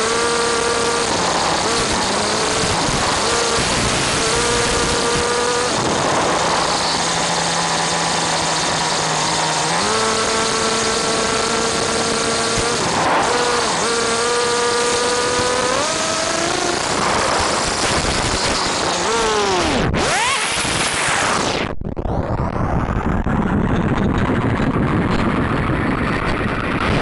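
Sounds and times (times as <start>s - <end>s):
small nitro engine whine: 0.0s - 27.0s.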